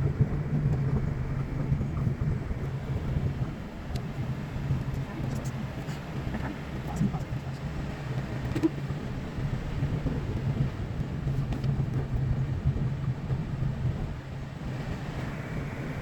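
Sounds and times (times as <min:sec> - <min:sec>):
road and tyre noise: 0:00.0 - 0:16.0
car engine hum: 0:00.1 - 0:16.0.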